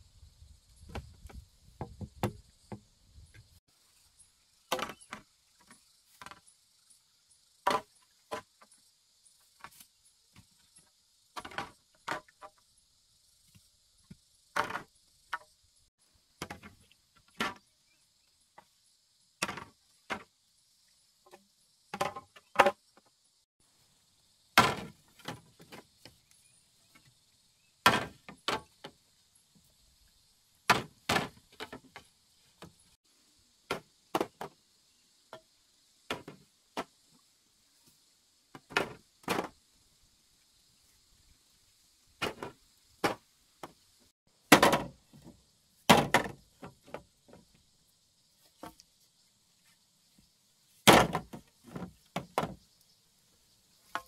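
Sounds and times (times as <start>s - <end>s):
faint high insect hum: 0.0s - 54.0s.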